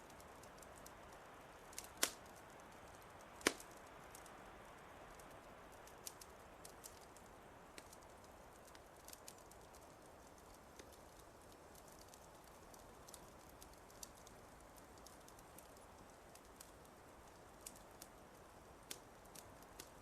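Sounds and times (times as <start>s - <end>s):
wood fire crackling faintly: 0.0s - 20.0s.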